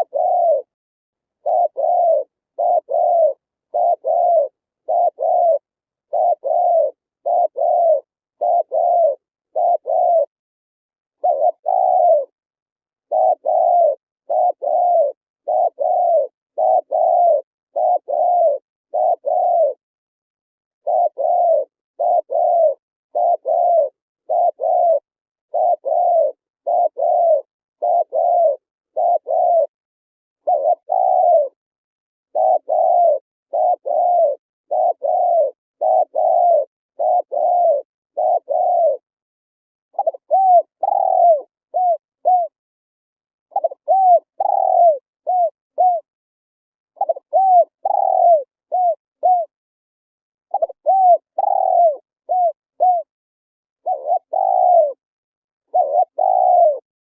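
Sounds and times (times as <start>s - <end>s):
dove cooing: 0.0s - 0.8s, 1.4s - 10.4s, 11.2s - 12.4s, 13.0s - 19.8s, 20.8s - 29.8s, 30.4s - 31.6s, 32.3s - 39.1s, 39.9s - 42.6s, 43.5s - 46.1s, 46.9s - 49.6s, 50.5s - 53.1s, 53.8s - 55.0s, 55.6s - 57.0s.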